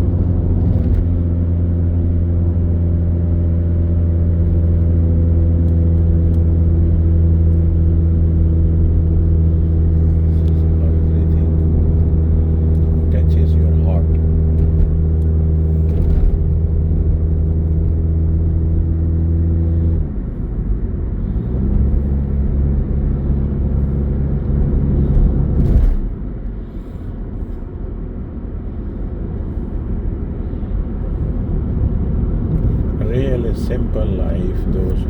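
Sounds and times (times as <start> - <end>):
car engine humming: 0.0 - 35.0
low road rumble: 0.0 - 35.0.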